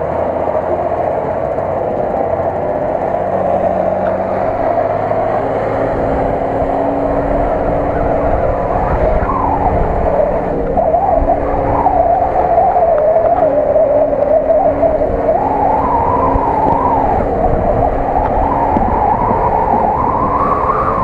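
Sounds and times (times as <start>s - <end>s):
truck engine running under load: 0.0s - 21.0s
wavering whine: 0.0s - 21.0s.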